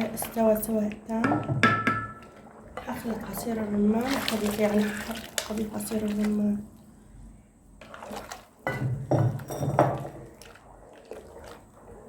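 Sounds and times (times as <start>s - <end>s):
liquid pouring into pot: 0.0s - 6.4s, 7.8s - 12.0s.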